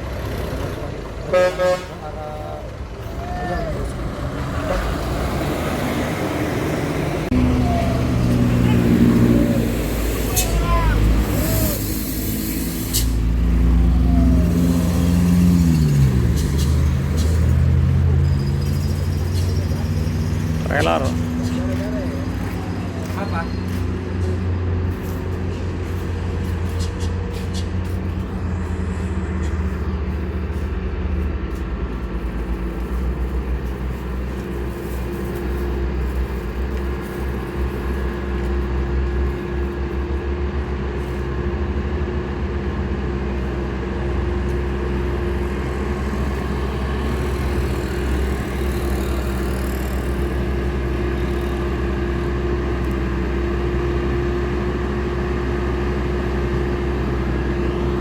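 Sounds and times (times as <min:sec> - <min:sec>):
heavy truck engine running: 0:00.0 - 0:58.0.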